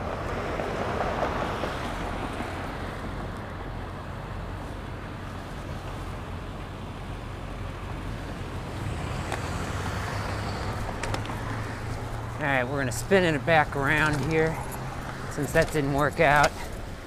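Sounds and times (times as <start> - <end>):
road and traffic rumble: 0.0 - 17.0.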